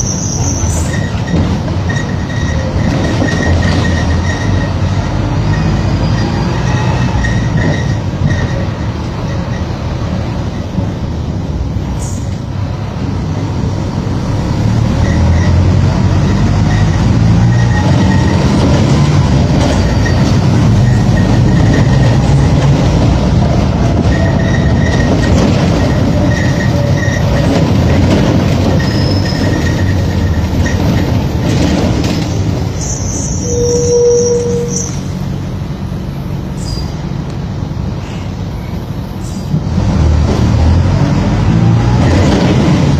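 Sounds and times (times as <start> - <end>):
bus diesel engine accelerating: 0.0 - 33.6, 34.5 - 42.9.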